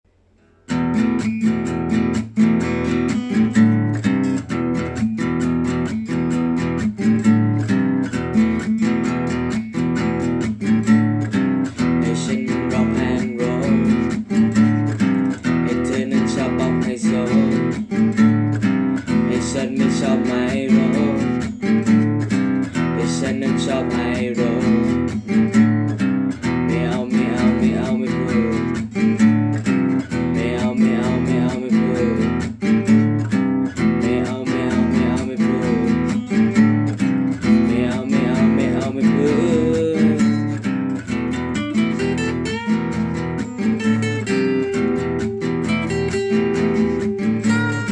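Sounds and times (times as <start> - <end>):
acoustic guitar strumming: 0.1 - 47.9.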